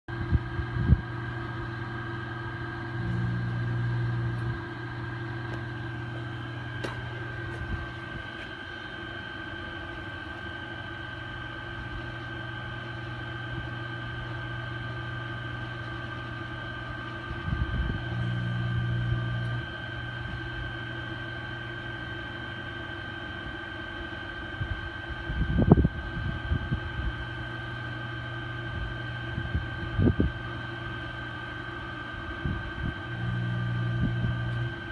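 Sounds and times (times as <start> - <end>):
high whine: 0.1 - 22.4, 25.4 - 34.9
hvac unit humming: 0.1 - 34.9.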